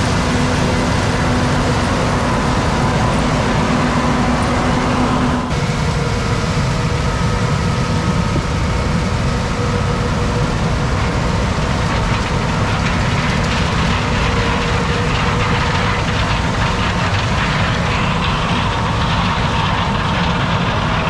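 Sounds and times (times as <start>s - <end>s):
heavy machinery engine drone: 0.0s - 21.0s.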